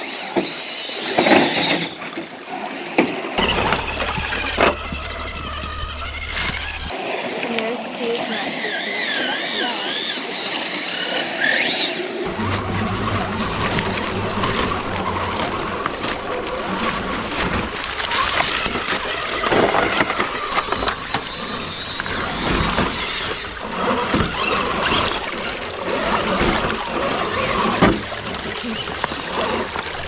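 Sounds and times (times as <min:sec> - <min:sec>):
churning splashing water: 0:00.0 - 0:30.0.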